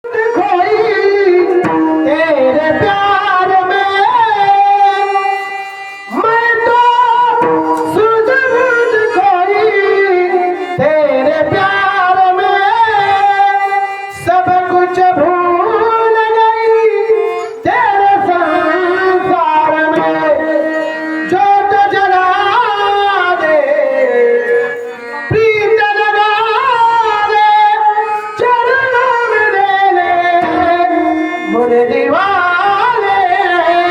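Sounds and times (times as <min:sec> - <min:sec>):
instrumental accompaniment: 0:00.0 - 0:33.9
man singing devotional song: 0:00.0 - 0:33.9.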